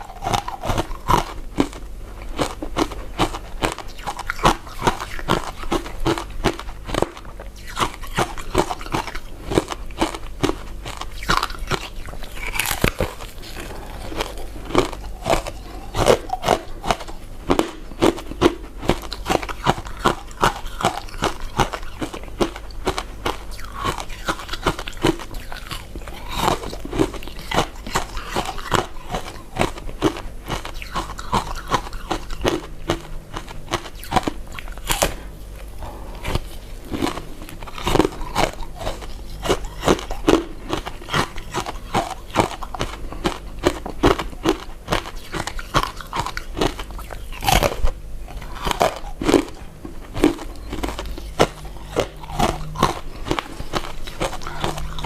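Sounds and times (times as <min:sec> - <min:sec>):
close-miked chewing: 0:00.0 - 0:55.0.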